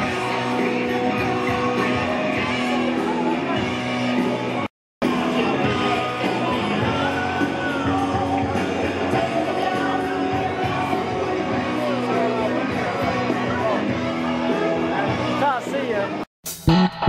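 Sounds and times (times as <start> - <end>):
loud music with singing: 0.0 - 17.0.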